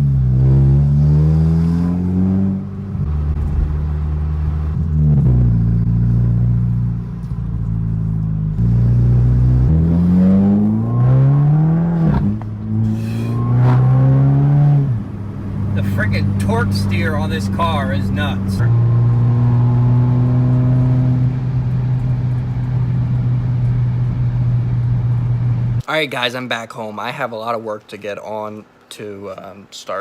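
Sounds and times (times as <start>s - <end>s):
car engine accelerating through gears: 0.0s - 25.8s.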